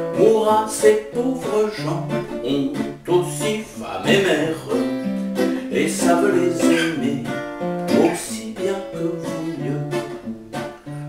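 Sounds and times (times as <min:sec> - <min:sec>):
man singing: 0:00.0 - 0:10.3
plucked acoustic guitar: 0:00.0 - 0:11.0.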